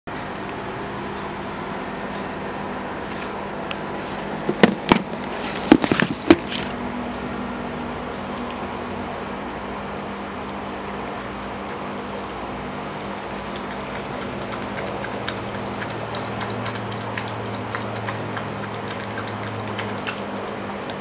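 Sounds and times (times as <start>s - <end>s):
steady low hum: 0.1s - 21.0s.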